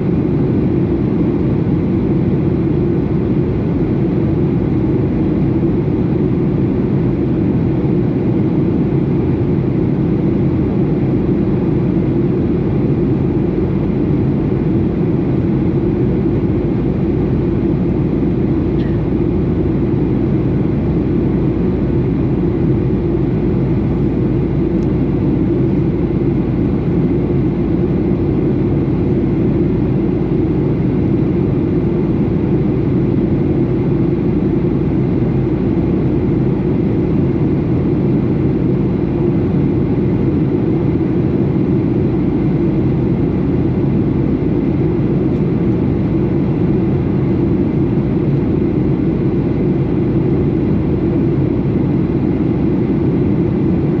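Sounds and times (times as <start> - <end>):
airliner cabin hum: 0.0 - 54.0.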